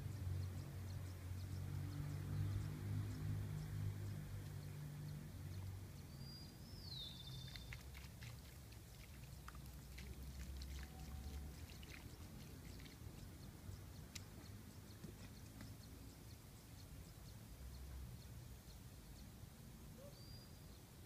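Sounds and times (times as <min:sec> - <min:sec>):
low steady hum: 0:00.0 - 0:21.0
water splashes and drips: 0:00.1 - 0:18.5.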